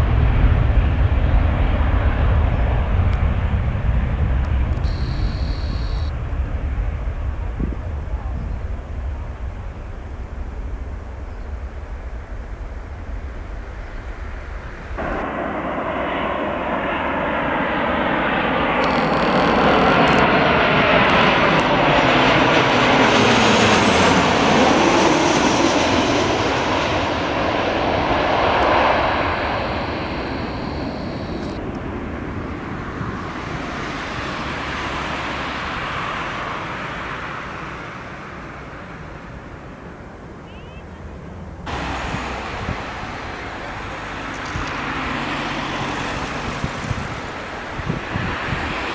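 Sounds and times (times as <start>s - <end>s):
distant jet rumble: 0.0s - 48.9s
jet airliner passing close: 0.0s - 48.9s.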